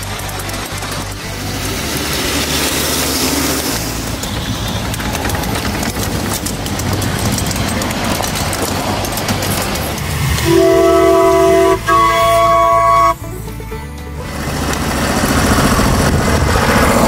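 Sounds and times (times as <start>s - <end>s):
model train engine running: 0.0s - 17.0s
wheels clicking over rail joints: 0.0s - 17.0s.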